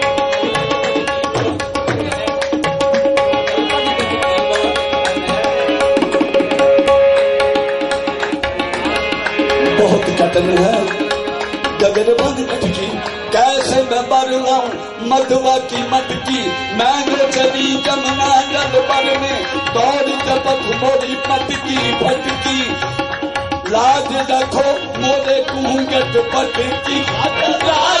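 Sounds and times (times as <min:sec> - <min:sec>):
fast tabla strokes: 0:00.0 - 0:28.0
harmonium holding notes: 0:00.0 - 0:28.0.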